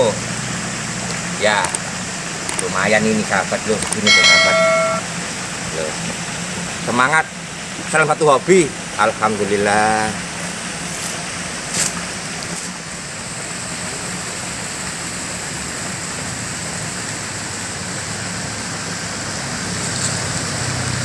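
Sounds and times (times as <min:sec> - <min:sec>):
stream rushing through culvert: 0:00.0 - 0:21.0.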